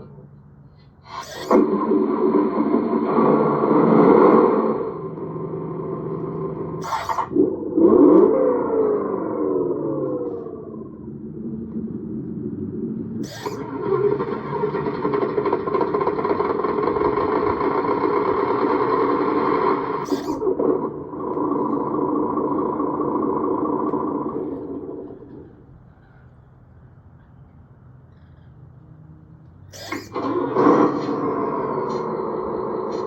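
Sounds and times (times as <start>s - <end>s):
simulated diesel engine from speaker: 0.0s - 33.0s.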